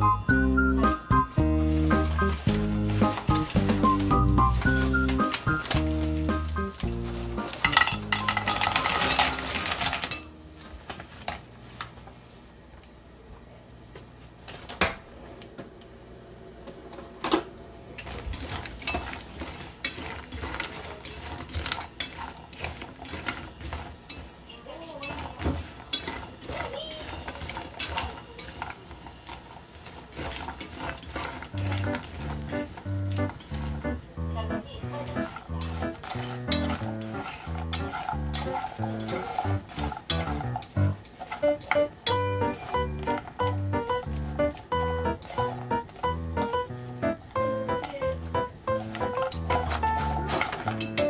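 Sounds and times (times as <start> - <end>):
oil crackling: 0.0 - 12.0, 18.0 - 51.0
chopsticks tapping a pan: 0.9 - 10.3, 18.0 - 51.0
biscuits sizzling in hot oil: 1.3 - 10.3, 18.0 - 51.0.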